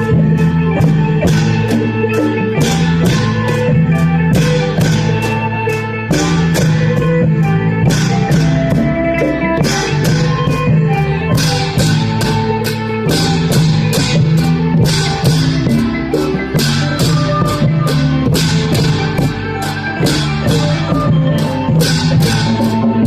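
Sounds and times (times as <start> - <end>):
drum beat: 0.0 - 23.0
plucked-string melody: 0.0 - 23.0.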